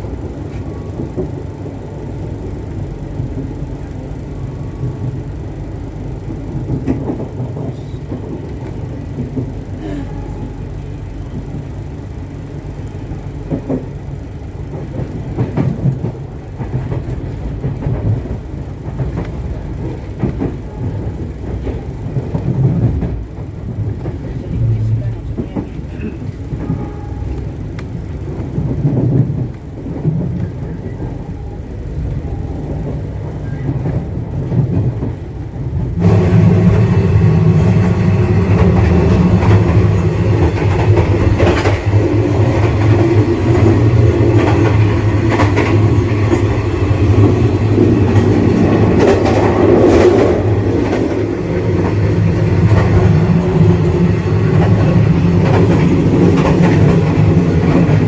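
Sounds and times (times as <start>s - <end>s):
train running on rails: 0.0s - 58.0s.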